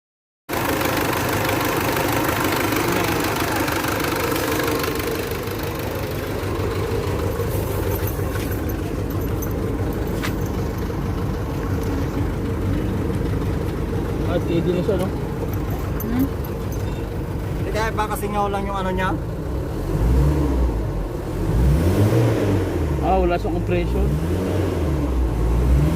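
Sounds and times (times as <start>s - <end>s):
car engine idling: 0.5s - 21.6s.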